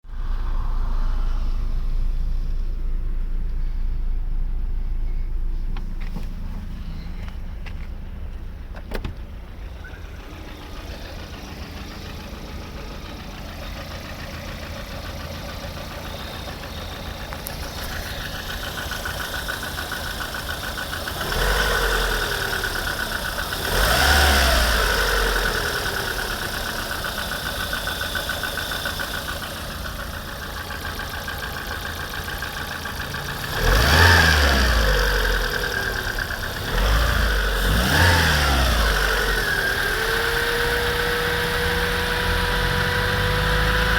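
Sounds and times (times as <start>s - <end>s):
engine revving: 0.0s - 7.9s, 8.7s - 43.9s
car engine idling with knock: 0.2s - 43.9s.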